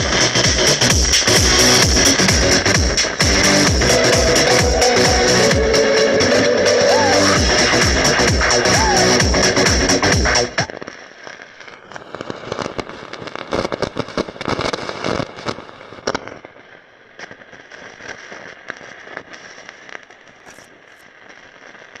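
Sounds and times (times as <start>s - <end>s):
speaker crackling and popping: 0.0s - 22.0s.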